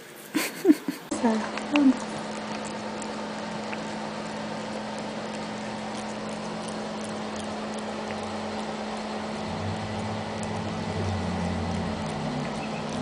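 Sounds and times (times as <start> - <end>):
steady hum and hiss: 0.0 - 13.0
cat tongue licking candy: 0.3 - 13.0.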